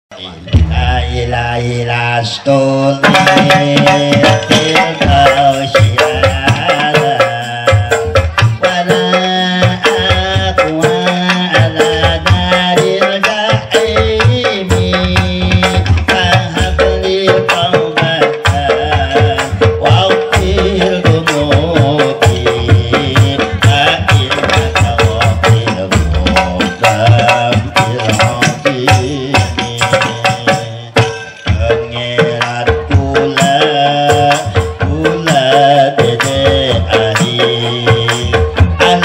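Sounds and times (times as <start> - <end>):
fast hand drum percussion: 0.4 - 39.0.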